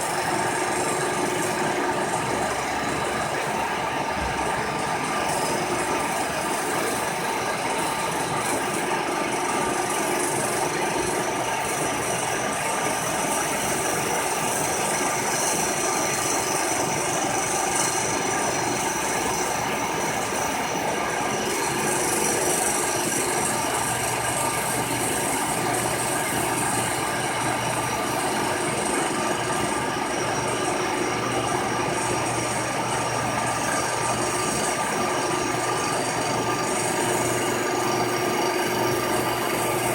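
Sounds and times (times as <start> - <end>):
constant machine tones: 0.0 - 39.9
milling machine cutting metal: 0.0 - 39.9.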